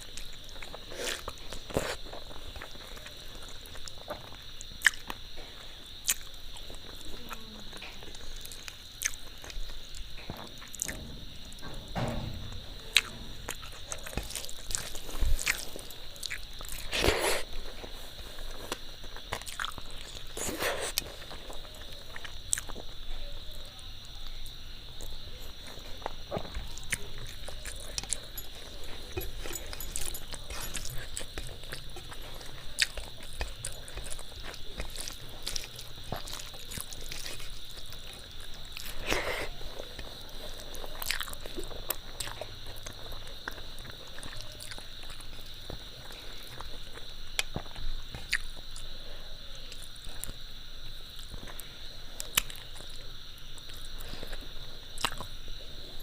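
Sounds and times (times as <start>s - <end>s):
person chewing food: 0.0s - 23.0s, 24.9s - 49.0s, 49.6s - 50.4s, 51.0s - 56.0s.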